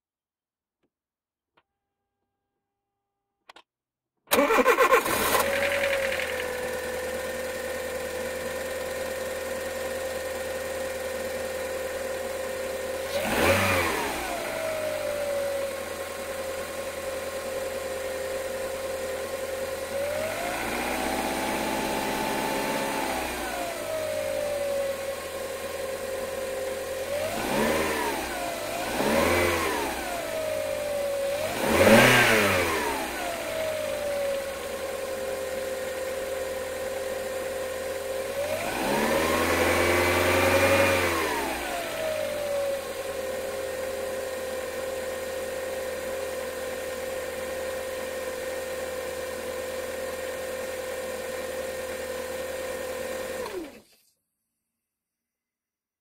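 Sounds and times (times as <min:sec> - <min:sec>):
car engine idling and revving: 0:04.3 - 0:53.9.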